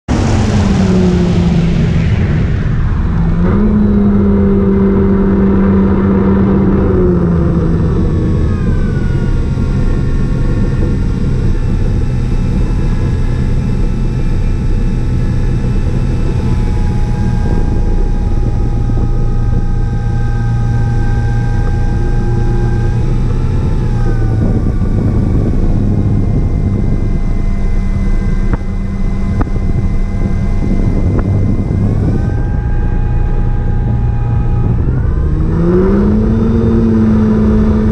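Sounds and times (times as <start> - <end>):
model plane motor and propeller: 6.4 - 37.9.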